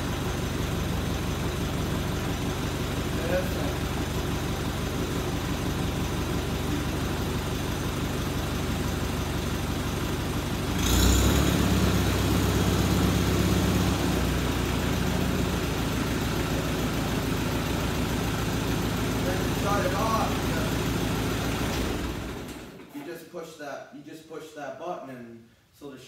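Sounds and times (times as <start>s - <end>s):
tractor engine running: 0.0s - 22.8s.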